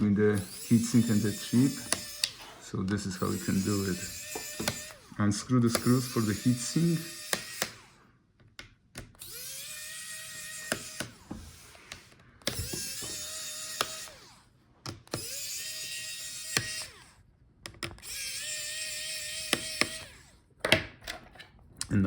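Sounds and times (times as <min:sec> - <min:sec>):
electric screwdriver whirring: 0:00.0 - 0:08.1, 0:09.0 - 0:20.4.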